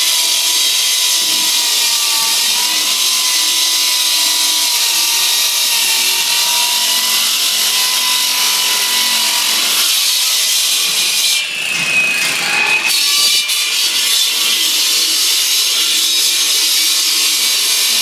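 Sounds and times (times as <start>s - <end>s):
electric saw grinding concrete: 0.0s - 18.0s.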